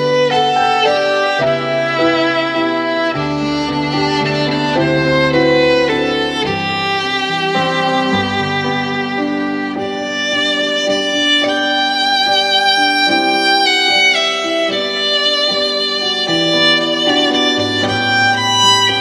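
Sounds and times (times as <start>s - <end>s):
slow violin melody: 0.0s - 19.0s.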